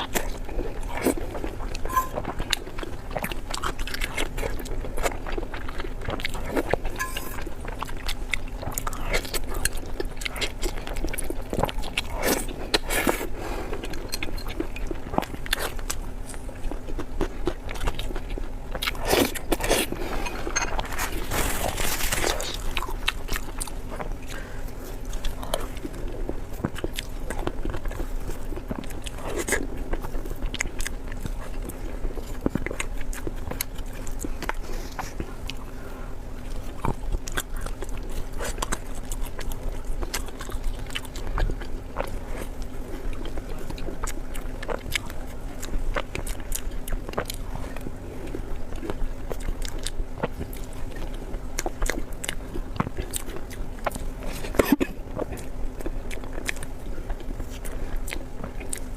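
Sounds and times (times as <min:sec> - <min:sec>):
faint steady hum: 0:00.0 - 0:58.9
person chewing food: 0:00.0 - 0:58.9.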